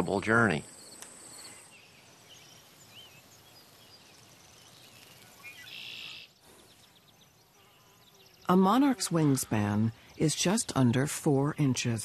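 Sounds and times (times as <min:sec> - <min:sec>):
bird chirps: 0:00.6 - 0:10.4.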